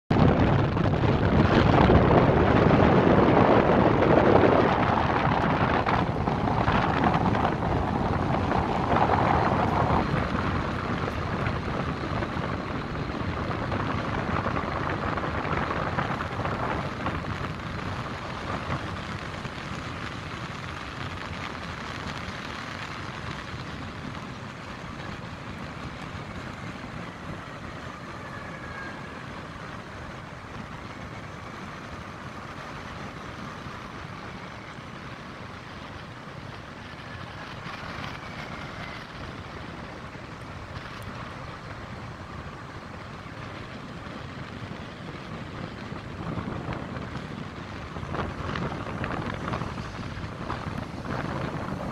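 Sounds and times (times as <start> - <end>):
distant city traffic hum: 0.1 - 51.9
wind rushing: 0.1 - 51.9.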